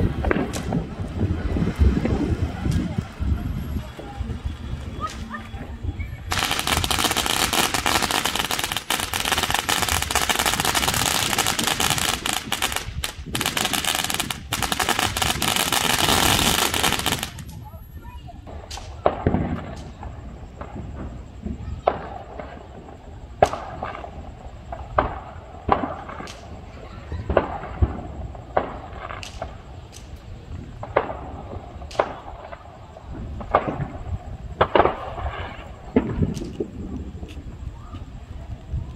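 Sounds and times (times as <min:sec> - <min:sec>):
firework bangs echoing: 0:00.0 - 0:03.2, 0:06.2 - 0:37.3
fireworks crackling and popping: 0:00.0 - 0:38.9.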